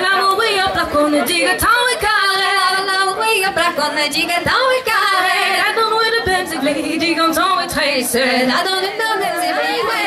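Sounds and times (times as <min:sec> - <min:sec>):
dance singing over a sound system: 0:00.0 - 0:10.0.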